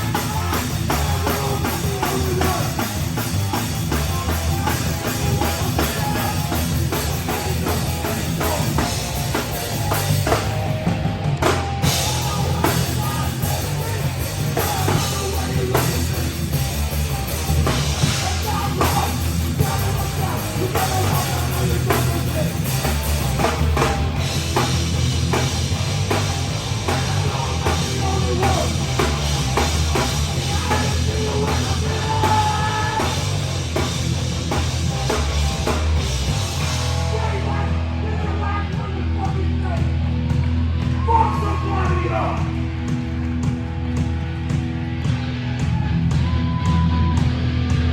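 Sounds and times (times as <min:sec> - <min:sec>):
drum kit: 0:00.0 - 0:47.9
live heavy rock band: 0:00.0 - 0:47.9.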